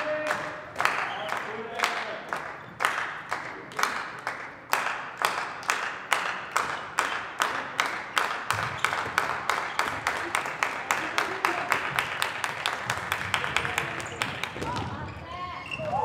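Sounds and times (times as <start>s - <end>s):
people clapping in unison: 0.0s - 14.8s.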